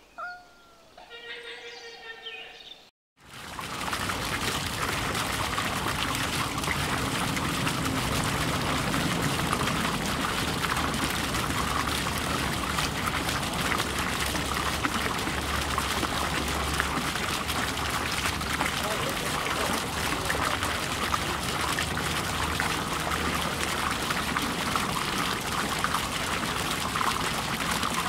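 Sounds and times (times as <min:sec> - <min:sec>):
aquarium water running: 0:03.2 - 0:28.0.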